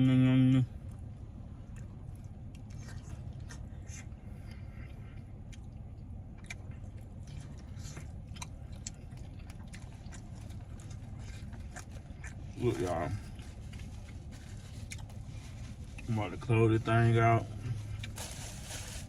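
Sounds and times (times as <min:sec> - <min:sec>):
steady low hum: 0:00.0 - 0:19.0
person chewing food: 0:00.8 - 0:16.1, 0:17.6 - 0:19.0.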